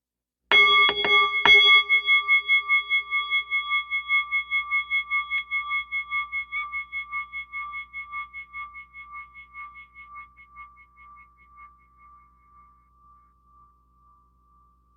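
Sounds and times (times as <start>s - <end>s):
singing bowl ringing: 0.5s - 14.9s.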